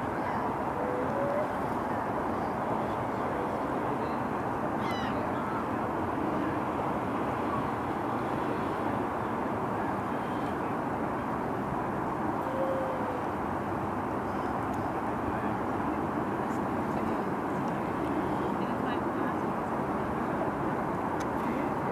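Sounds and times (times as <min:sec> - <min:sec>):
distant city traffic rumble: 0:00.0 - 0:21.9.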